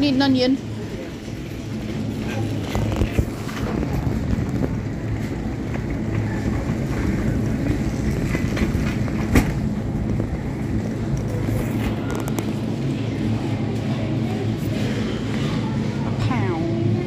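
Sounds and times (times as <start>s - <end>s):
shopping trolley rolling: 0.0s - 16.9s.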